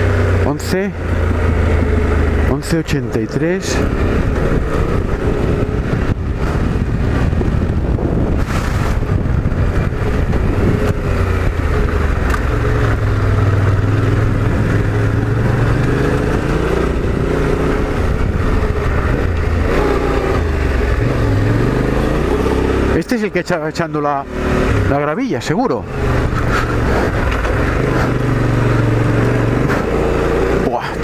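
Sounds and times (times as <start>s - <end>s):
motorcycle engine revving: 0.0s - 31.0s
tires on loose gravel: 0.0s - 31.0s.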